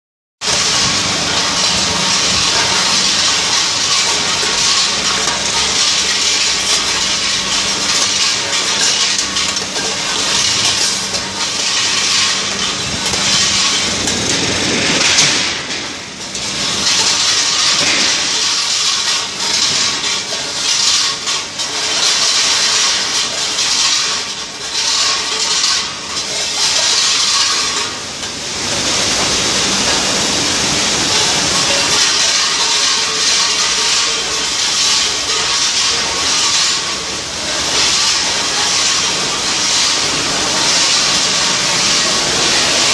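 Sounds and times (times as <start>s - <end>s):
canning machinery hissing and rushing: 0.4s - 42.9s.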